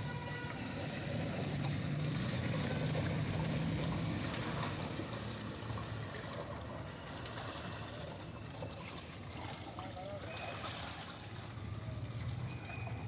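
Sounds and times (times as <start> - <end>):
water pouring through a strainer: 0.0 - 13.0.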